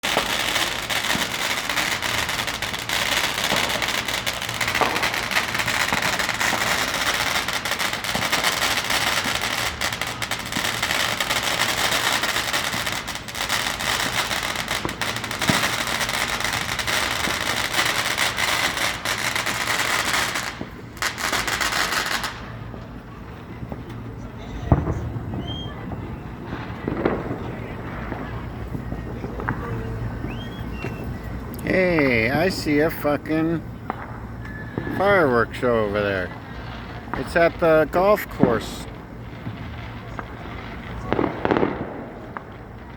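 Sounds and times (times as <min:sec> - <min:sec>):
sharp firework bangs: 0:00.0 - 0:35.4, 0:36.1 - 0:42.9
fireworks popping and crackling: 0:00.0 - 0:42.9.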